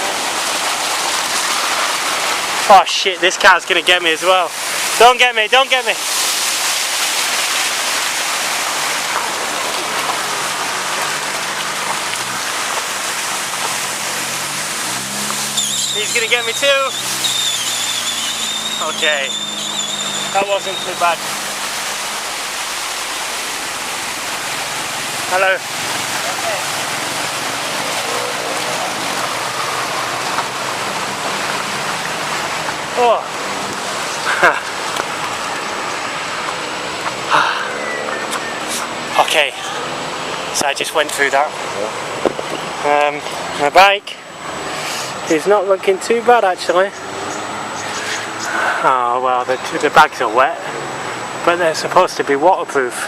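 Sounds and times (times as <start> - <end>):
floodwater rushing and splashing: 0.0 - 53.0.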